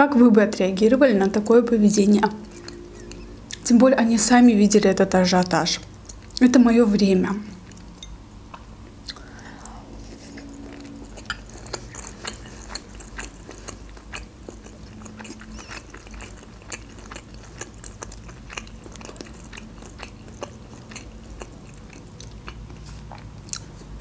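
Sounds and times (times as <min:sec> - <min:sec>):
chewing food: 0:02.0 - 0:03.7, 0:05.1 - 0:06.5, 0:07.5 - 0:24.0.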